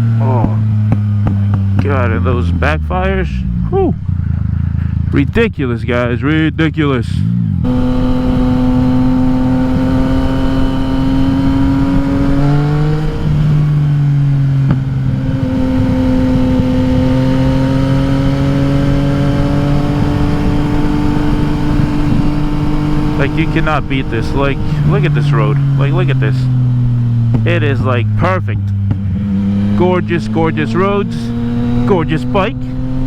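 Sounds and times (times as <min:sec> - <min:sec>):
wind rumble: 0:00.0 - 0:05.8, 0:07.2 - 0:29.8
motorcycle engine droning: 0:00.0 - 0:33.0.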